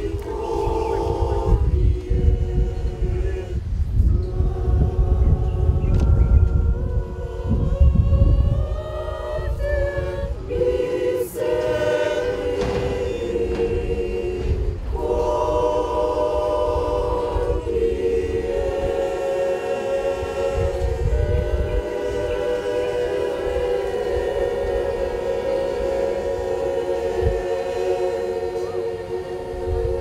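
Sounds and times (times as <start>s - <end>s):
women's choir singing in harmony: 0.0s - 30.0s.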